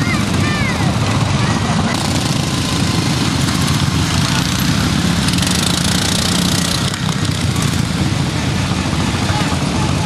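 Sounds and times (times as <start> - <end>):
lawn mower engines racing: 0.0 - 10.0.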